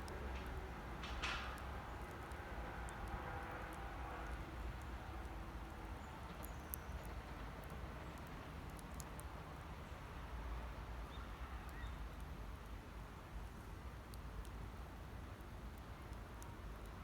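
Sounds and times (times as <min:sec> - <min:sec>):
low fire rumble: 0:00.0 - 0:17.0.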